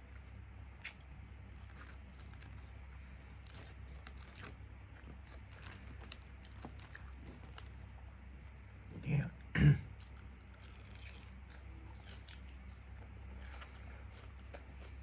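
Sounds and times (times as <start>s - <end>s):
crunching and chewing fried chicken: 0.0s - 9.0s, 9.8s - 15.0s
steady low hum: 0.0s - 15.0s.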